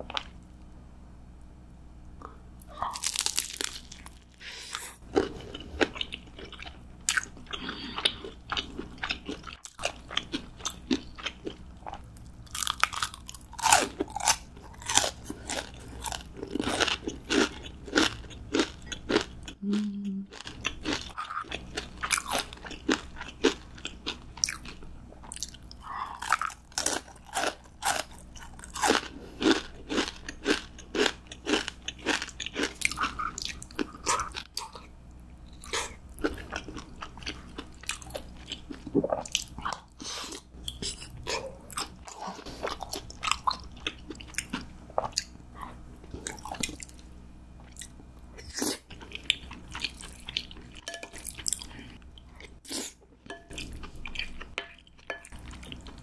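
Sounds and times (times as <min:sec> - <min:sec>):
chewing crunchy food: 0:02.2 - 0:56.0.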